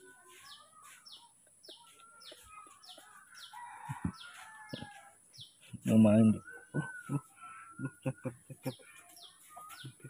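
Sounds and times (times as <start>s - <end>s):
bird chirping: 0.0s - 10.0s
longer bird calls: 0.0s - 10.0s.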